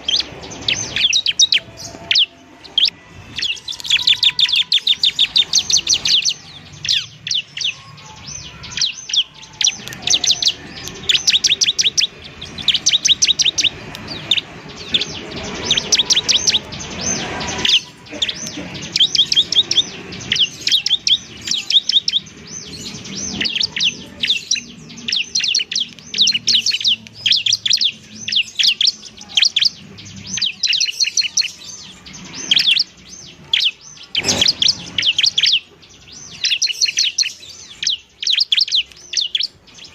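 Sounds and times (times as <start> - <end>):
bird singing sharp high chirps: 0.0 - 39.9.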